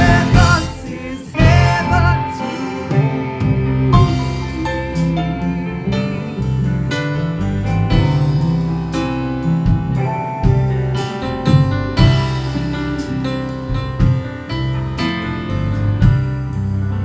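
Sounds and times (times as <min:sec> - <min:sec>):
bass line: 0:00.0 - 0:17.0
gospel keyboard piano music: 0:00.0 - 0:17.0.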